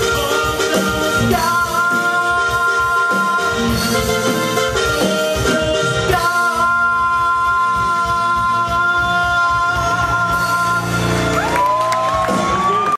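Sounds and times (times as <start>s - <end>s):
live band playing: 0.0s - 12.9s.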